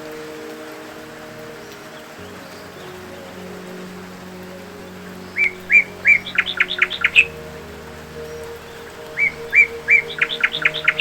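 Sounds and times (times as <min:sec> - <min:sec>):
faint steady low tones: 0:00.0 - 0:11.0.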